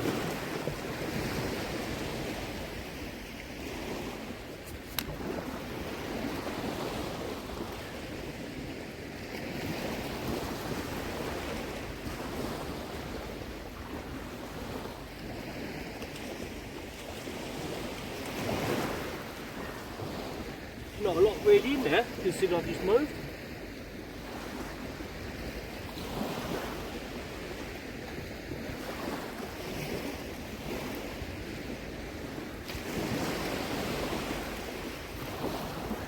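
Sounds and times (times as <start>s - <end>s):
small waves on sandy shore: 0.0s - 36.0s.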